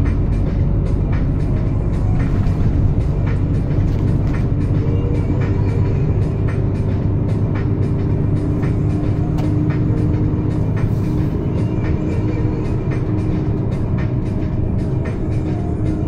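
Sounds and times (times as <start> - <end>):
music with even beat: 0.0 - 16.0
truck engine and road drone: 0.0 - 16.0.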